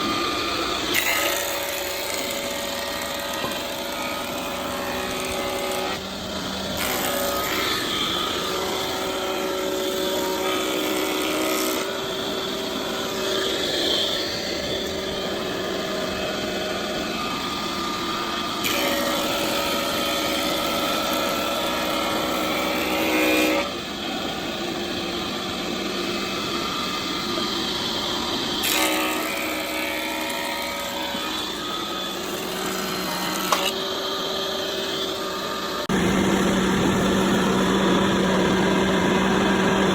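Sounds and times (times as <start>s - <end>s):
power tools cutting wood: 0.0s - 39.9s.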